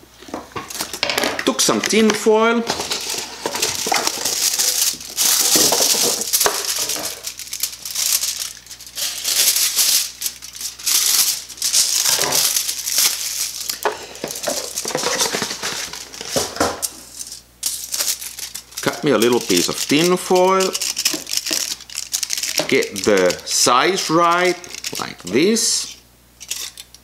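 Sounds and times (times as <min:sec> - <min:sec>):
aluminium foil crinkling: 0:00.5 - 0:27.0
scissors cutting foil: 0:02.8 - 0:25.4.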